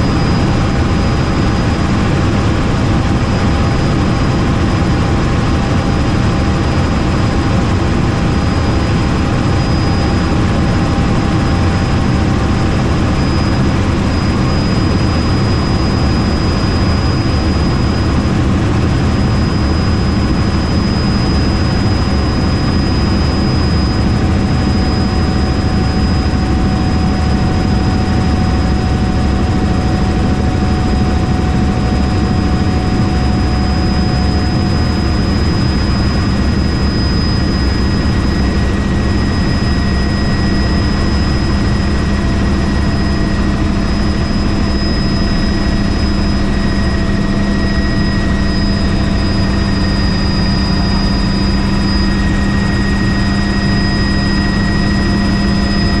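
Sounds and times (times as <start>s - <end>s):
helicopter rotor drone: 0.0s - 56.0s
high whine: 0.0s - 56.0s.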